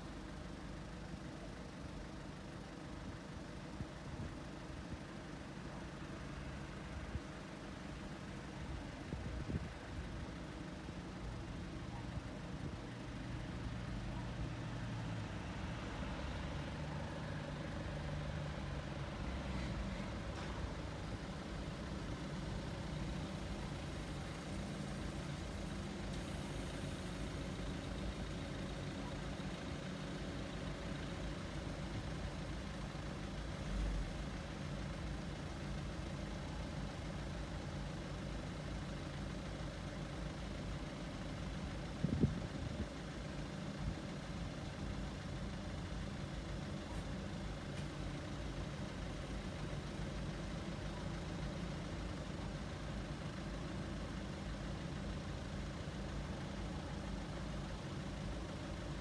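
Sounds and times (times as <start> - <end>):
car engines idling: 0.0 - 59.0.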